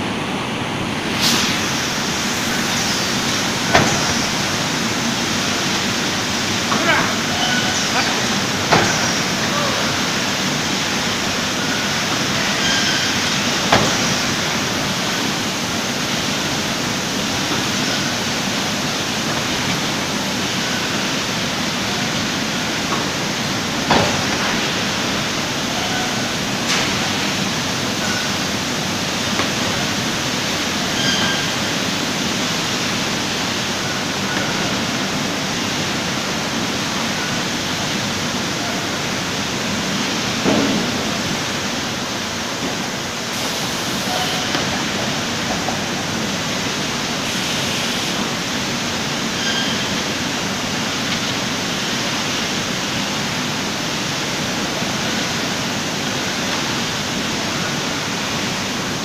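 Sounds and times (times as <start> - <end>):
production line machine noise: 0.0 - 59.0.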